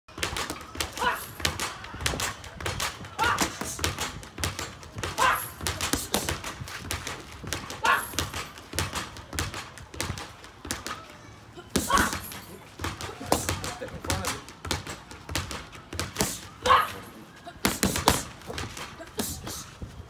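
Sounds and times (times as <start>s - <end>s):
boxing gloves slapping mitts: 0.1s - 11.0s, 11.7s - 17.0s, 17.6s - 19.8s.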